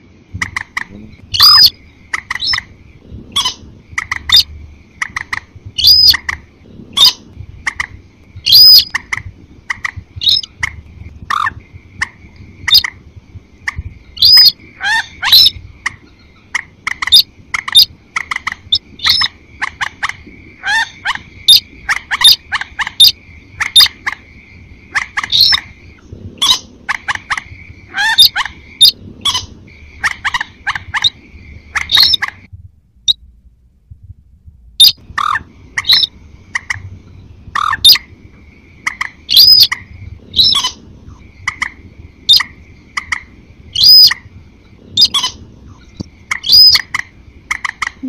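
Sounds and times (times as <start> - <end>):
recorded rail bird calls: 0.0 - 32.5, 34.8 - 48.0
steady high bird trill: 0.0 - 32.5, 34.8 - 48.0.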